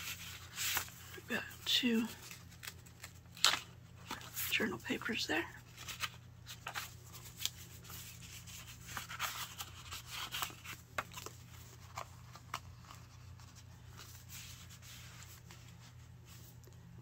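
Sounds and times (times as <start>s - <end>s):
paper pages rustling: 0.0s - 16.9s.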